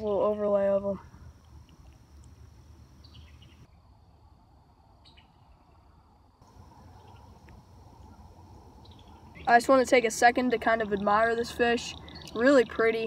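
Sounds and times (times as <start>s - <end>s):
high insect trill: 0.1s - 5.4s, 6.2s - 13.0s.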